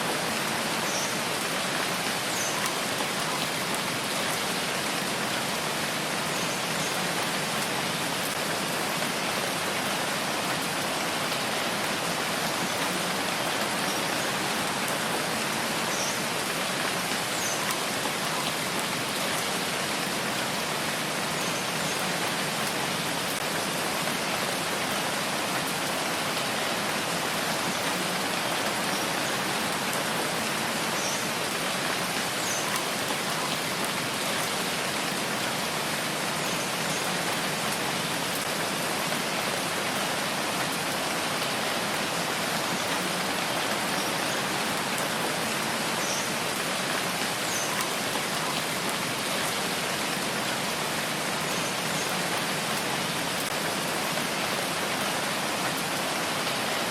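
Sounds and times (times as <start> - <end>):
rain on surfaces: 0.0 - 56.9.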